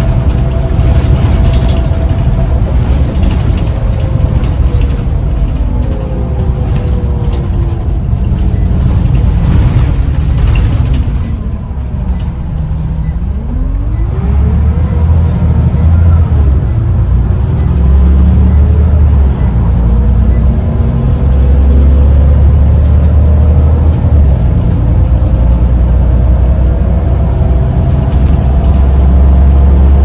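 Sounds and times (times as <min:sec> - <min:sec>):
bus diesel engine rumble: 0:00.0 - 0:30.0.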